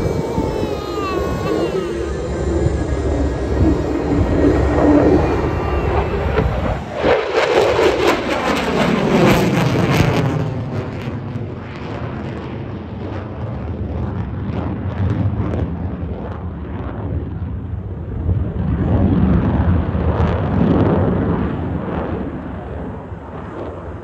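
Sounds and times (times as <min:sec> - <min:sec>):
jet engine roaring: 0:00.0 - 0:24.0.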